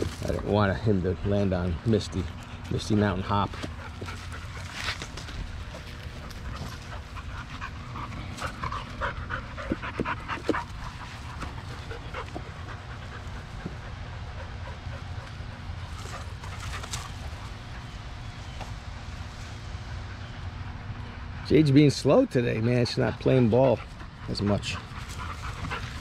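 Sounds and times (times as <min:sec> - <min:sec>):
dogs panting: 0:00.0 - 0:26.0
low steady rumble: 0:00.0 - 0:26.0.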